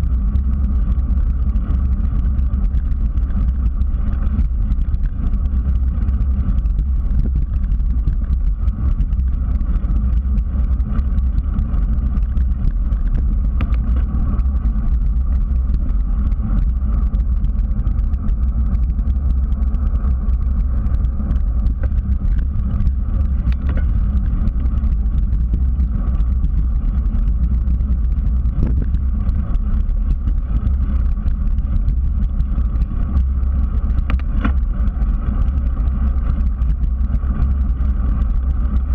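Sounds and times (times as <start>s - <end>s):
bicycle tyre noise on asphalt: 0.0s - 38.9s.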